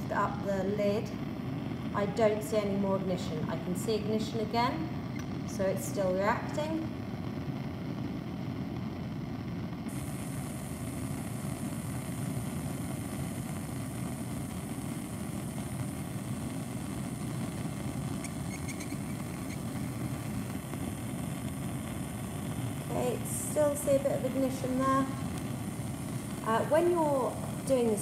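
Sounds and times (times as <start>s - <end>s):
bunsen burner flame rushing: 0.0s - 28.0s.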